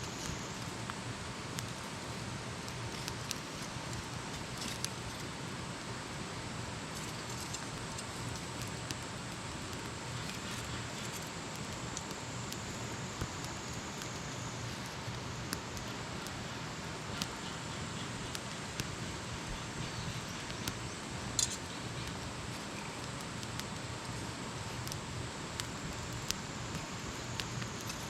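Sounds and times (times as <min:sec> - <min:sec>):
campfire hissing and crackling: 0:00.0 - 0:28.0.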